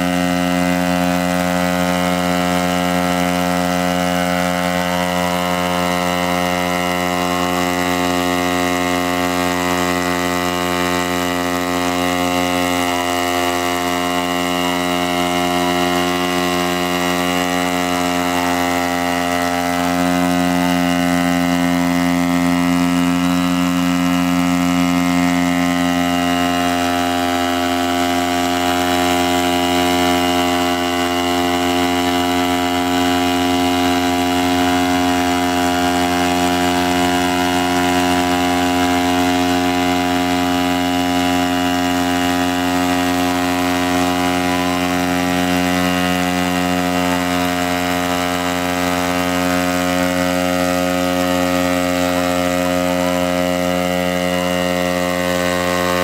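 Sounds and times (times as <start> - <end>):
multirotor engine and propellers drone: 0.0 - 56.0.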